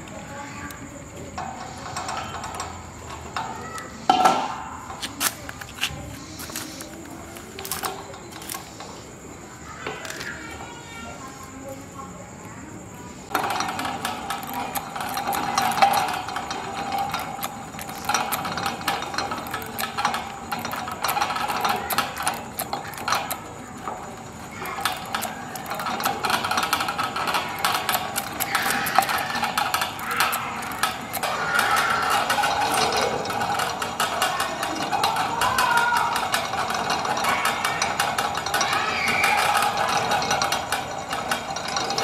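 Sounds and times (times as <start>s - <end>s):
chain and gears clattering: 4.8s - 12.1s, 13.3s - 42.0s.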